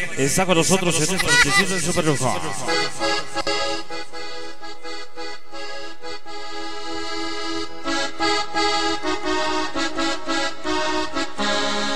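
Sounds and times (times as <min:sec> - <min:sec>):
accordion playing: 0:00.7 - 0:11.9.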